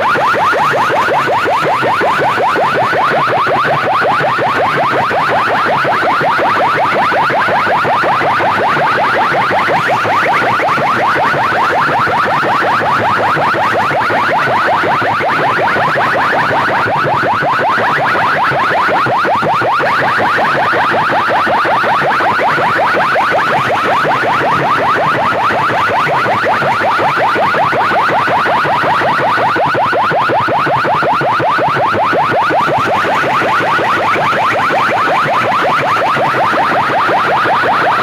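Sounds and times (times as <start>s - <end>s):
harsh electronic siren-like tone: 0.0s - 38.0s.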